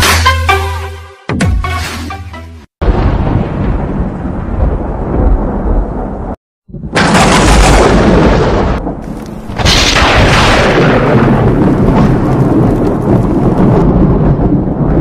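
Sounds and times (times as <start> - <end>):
thunder rumble: 2.8 - 15.0
thunderclap: 2.8 - 15.0.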